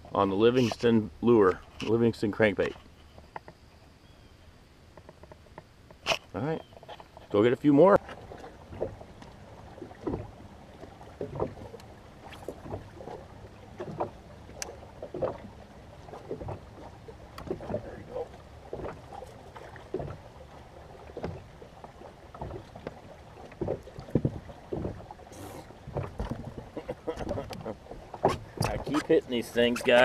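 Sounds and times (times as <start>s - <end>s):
water lapping against boat hull: 0.0s - 30.0s.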